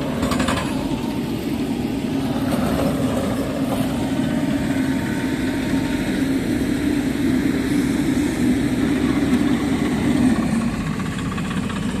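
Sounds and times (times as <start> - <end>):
engine low drone: 0.0 - 12.0.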